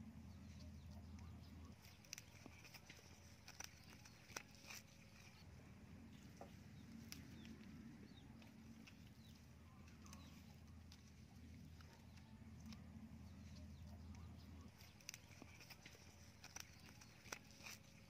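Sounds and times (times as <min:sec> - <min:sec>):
faint low rumble: 0:00.0 - 0:18.0
small birds chirping: 0:00.0 - 0:18.0.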